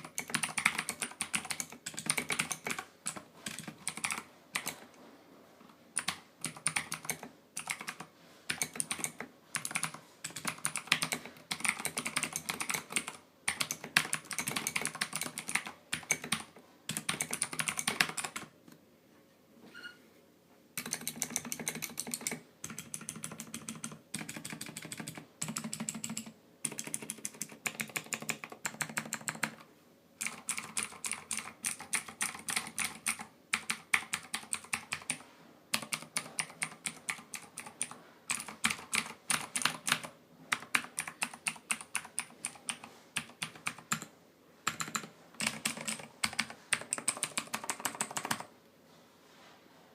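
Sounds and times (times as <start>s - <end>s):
mechanical keyboard typing: 0.0s - 4.8s, 6.0s - 18.5s, 20.8s - 48.5s.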